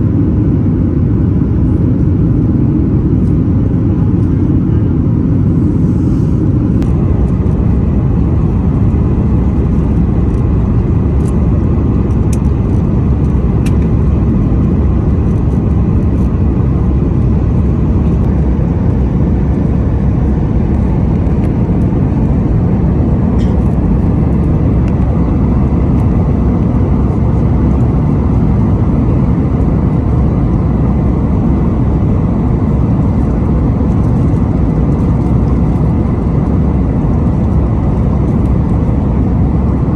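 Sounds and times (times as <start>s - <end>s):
jet engines and airflow in cabin: 0.0s - 39.9s.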